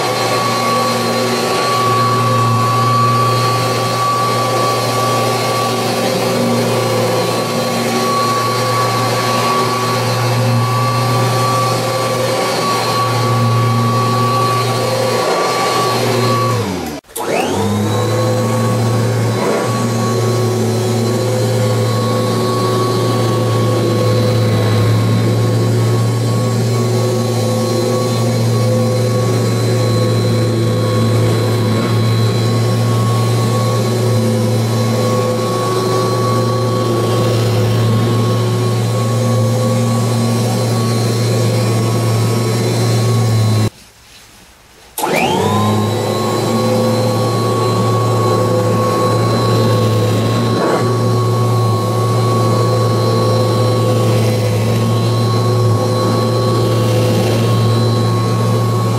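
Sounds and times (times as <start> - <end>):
vacuum cleaner whining: 0.0 - 43.7, 45.0 - 58.9.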